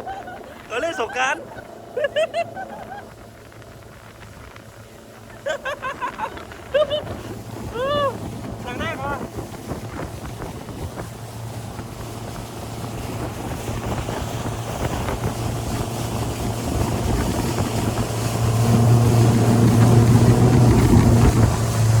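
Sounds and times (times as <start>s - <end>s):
motorboat engine drone: 0.0s - 22.0s.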